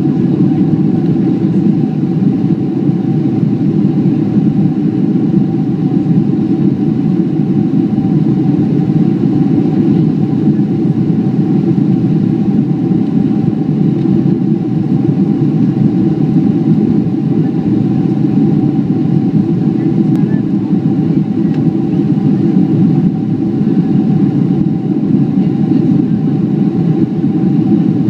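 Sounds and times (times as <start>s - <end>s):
jet cabin roar: 0.0s - 28.0s.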